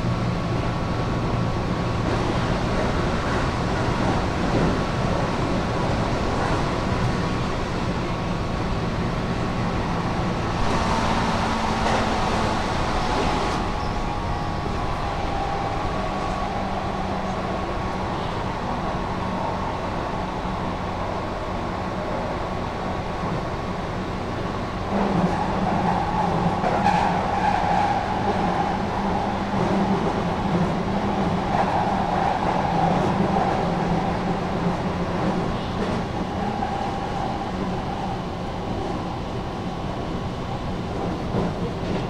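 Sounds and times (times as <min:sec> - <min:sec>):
wheels rumbling on rail: 0:00.0 - 0:42.0.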